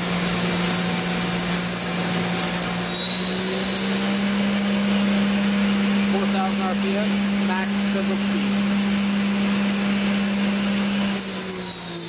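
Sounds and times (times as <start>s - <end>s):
low drive hum: 0.0s - 11.3s
lathe high whine: 0.0s - 12.0s.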